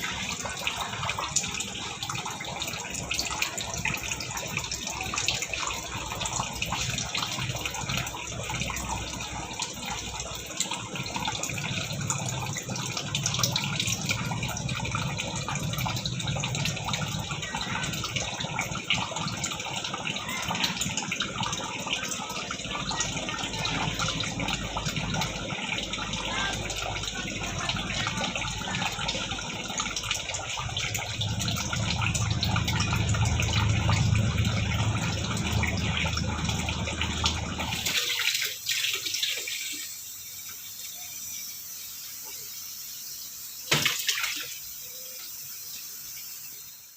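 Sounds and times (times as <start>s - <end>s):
tap water splashing into sink: 0.0s - 40.9s, 43.6s - 45.4s.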